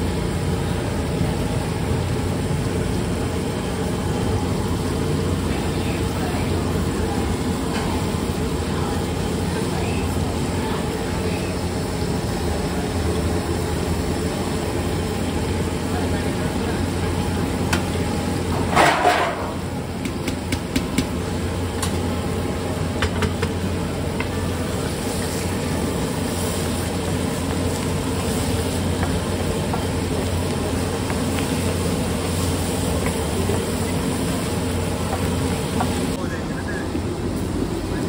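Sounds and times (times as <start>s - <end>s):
vegetables sizzling on a griddle: 0.0s - 38.0s.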